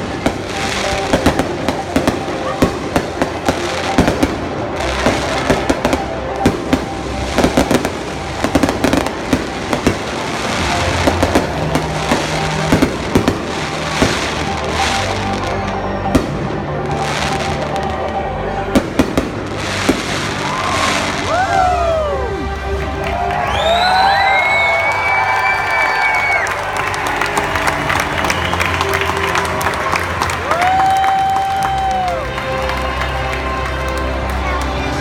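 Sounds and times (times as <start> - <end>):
fireworks bangs and crackles: 0.0 - 22.0, 25.1 - 35.0
music playing: 0.0 - 35.0.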